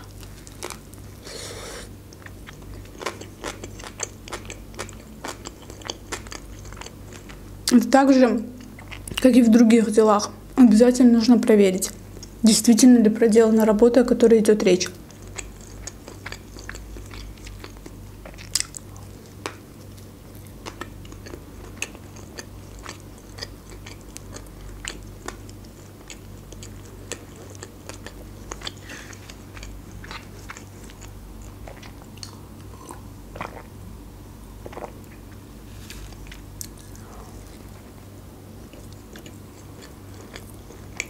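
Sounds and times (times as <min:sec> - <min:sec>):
person chewing food: 0:00.0 - 0:07.4, 0:08.6 - 0:09.2, 0:15.0 - 0:33.8, 0:34.6 - 0:41.0.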